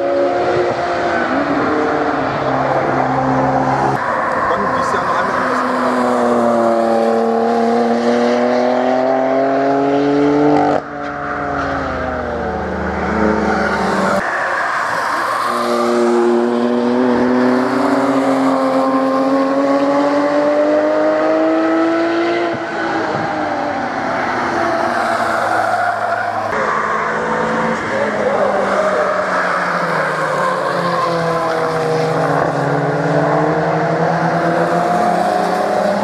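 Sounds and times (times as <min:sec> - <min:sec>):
sports car engines accelerating: 0:00.0 - 0:36.0.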